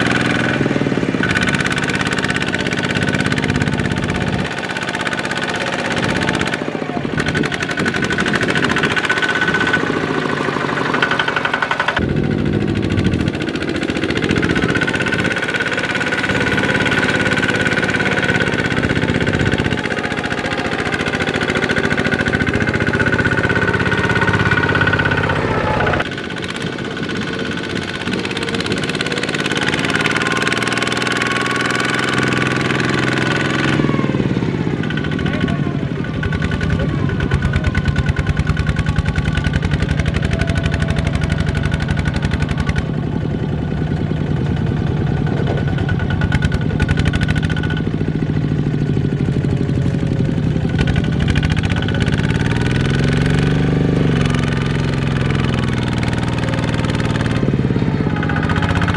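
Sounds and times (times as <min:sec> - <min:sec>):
diesel tractor engines under load: 0:00.0 - 0:58.9.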